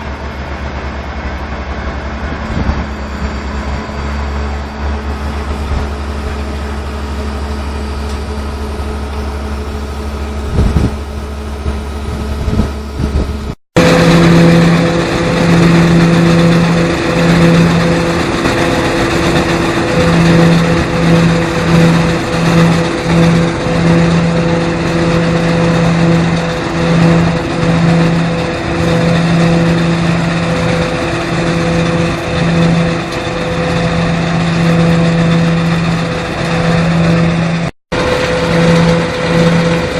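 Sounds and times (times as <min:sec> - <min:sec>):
machine drone wavering: 0:00.0 - 0:39.9
machine humming: 0:00.0 - 0:39.9.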